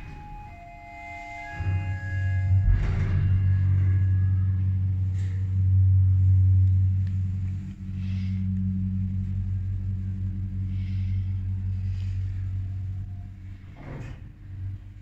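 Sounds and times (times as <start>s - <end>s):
hydraulic elevator hum: 0.0s - 15.0s.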